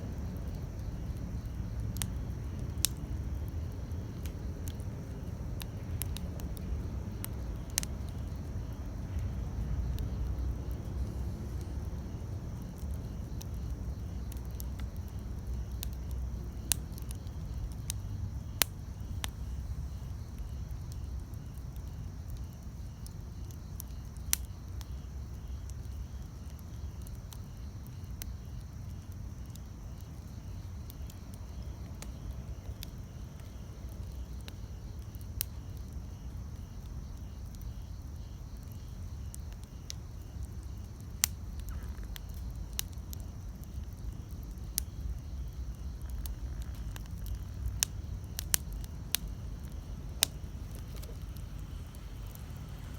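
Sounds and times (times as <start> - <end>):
campfire rumbling: 0.0 - 52.9
fire crackling pops: 0.0 - 52.9.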